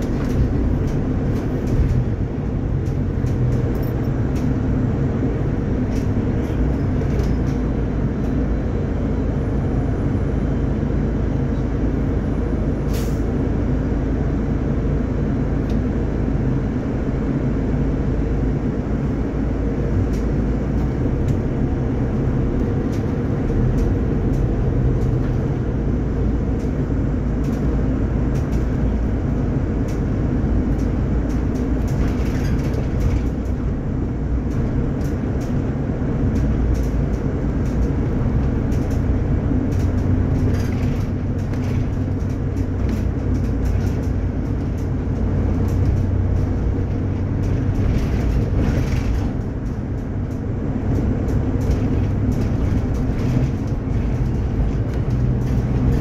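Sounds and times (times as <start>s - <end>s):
bus drivetrain and road rumble: 0.0s - 56.0s.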